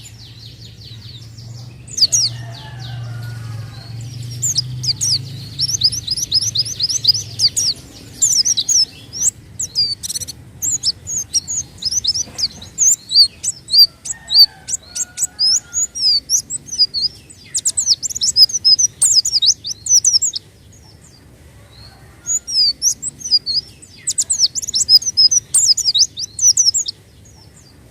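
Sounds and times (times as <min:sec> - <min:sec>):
bird singing high chirps and trills: 0:00.0 - 0:27.9.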